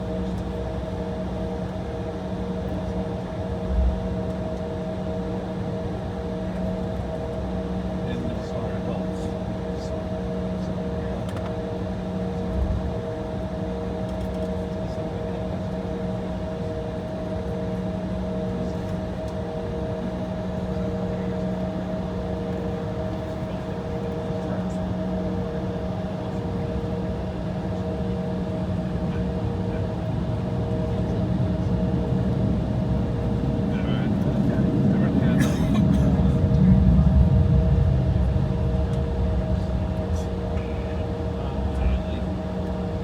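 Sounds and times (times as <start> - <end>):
airliner cabin hum: 0.0 - 43.0.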